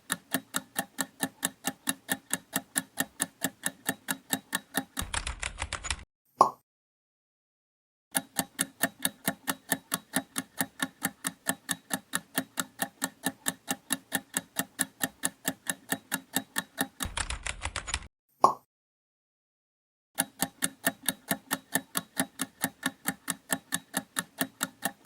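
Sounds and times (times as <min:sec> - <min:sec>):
clock ticking: 0:00.0 - 0:06.0, 0:08.1 - 0:18.1, 0:20.2 - 0:25.0.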